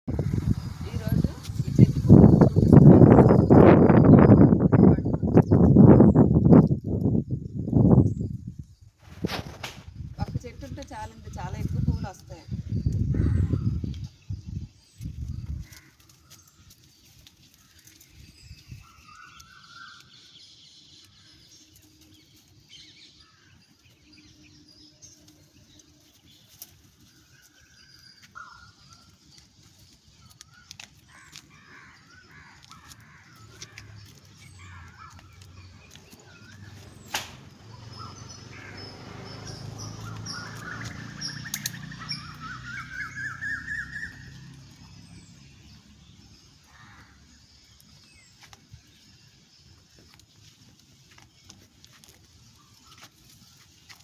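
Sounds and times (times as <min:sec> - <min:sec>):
birds chirping: 0:00.1 - 0:54.0.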